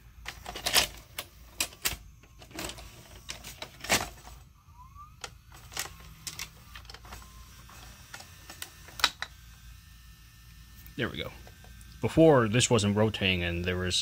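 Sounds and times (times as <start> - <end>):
rising motor whine: 1.3 - 14.0.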